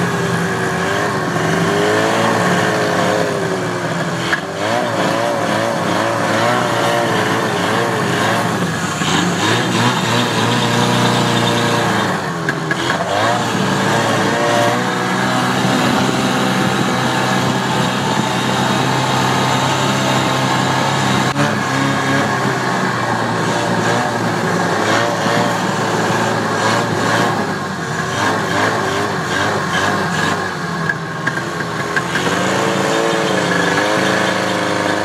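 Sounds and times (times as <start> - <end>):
snowmobile engines running: 0.0 - 35.0.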